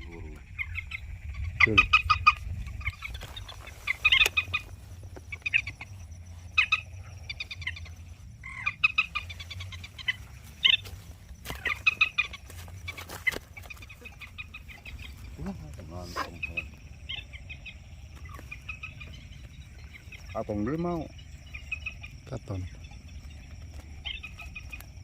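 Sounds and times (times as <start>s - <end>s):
moorhen calls: 0.0s - 25.0s
steady low rumble: 0.0s - 25.0s.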